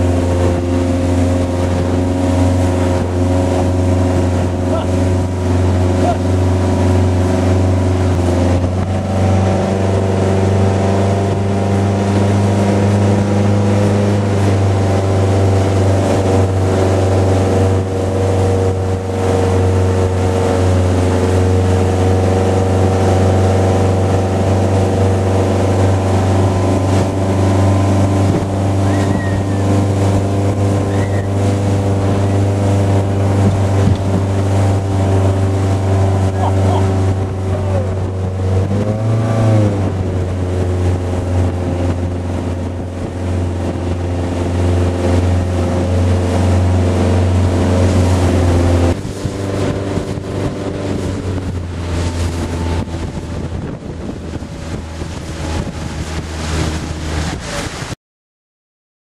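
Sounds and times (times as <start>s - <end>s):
speedboat engine droning: 0.0s - 58.0s
water rushing from wake: 0.0s - 58.0s.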